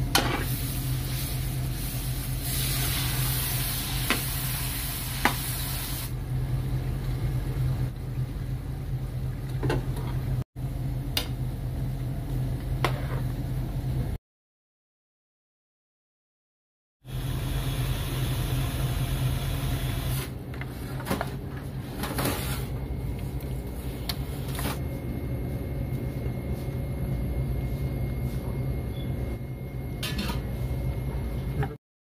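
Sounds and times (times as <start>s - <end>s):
kitchen equipment humming: 0.0s - 14.2s, 17.1s - 31.8s.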